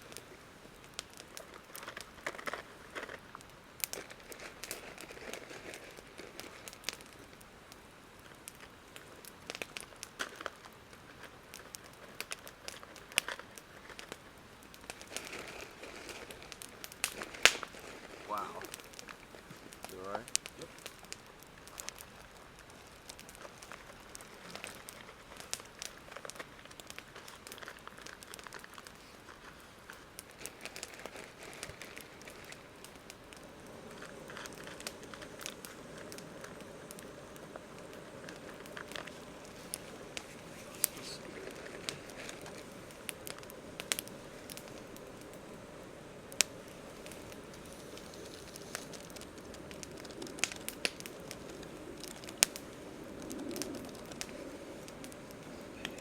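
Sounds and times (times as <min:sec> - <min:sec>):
campfire crackling and popping: 0:00.0 - 0:56.0
low rushing of flames: 0:00.0 - 0:56.0.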